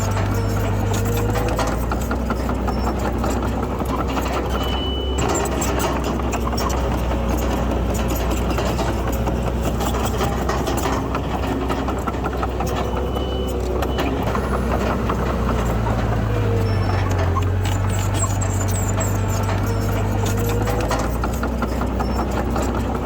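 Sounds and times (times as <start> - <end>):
heavy machinery engine hum: 0.0 - 23.0
rattling clatter: 0.0 - 23.0.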